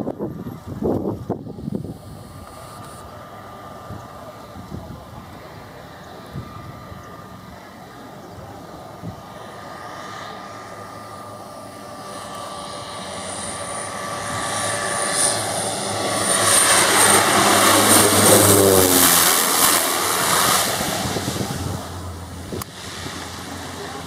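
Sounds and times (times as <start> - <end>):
high turbine whine: 0.0 - 24.0
propeller aircraft passing low: 0.0 - 24.0.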